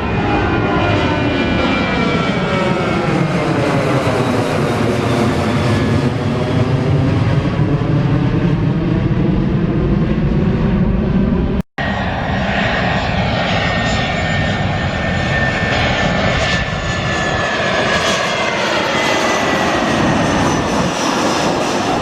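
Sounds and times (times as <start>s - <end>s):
jet engines passing: 0.0s - 22.0s.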